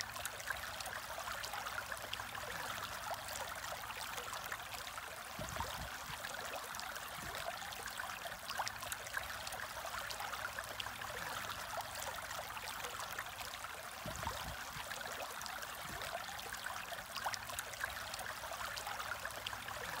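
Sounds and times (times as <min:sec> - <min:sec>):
aquarium water bubbling: 0:00.0 - 0:20.0.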